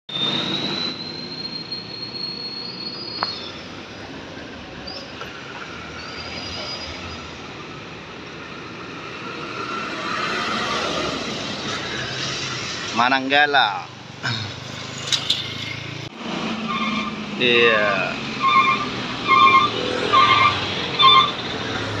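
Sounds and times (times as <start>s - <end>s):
vehicles driving over level crossing: 3.4s - 22.0s.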